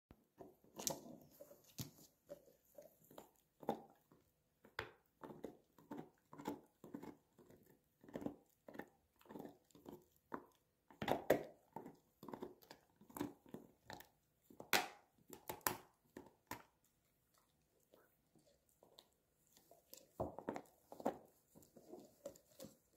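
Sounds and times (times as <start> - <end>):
dog gnawing hard bone: 0.4 - 22.9.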